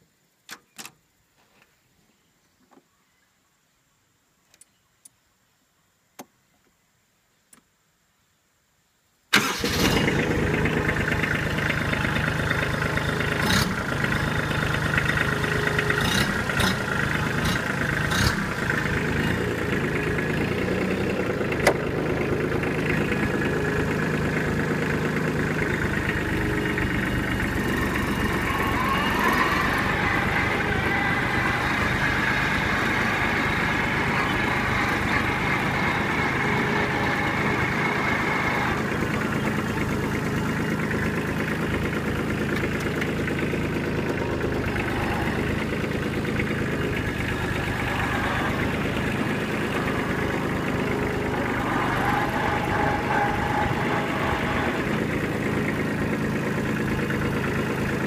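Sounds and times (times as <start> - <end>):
tractor diesel engine running: 9.3 - 58.0.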